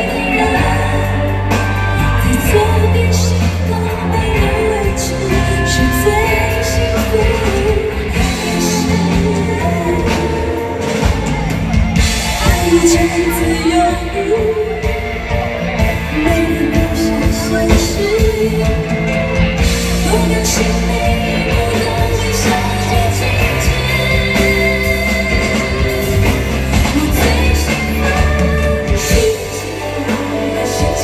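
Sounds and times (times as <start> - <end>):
live band playing: 0.0 - 31.0
woman singing a pop ballad: 0.0 - 31.0.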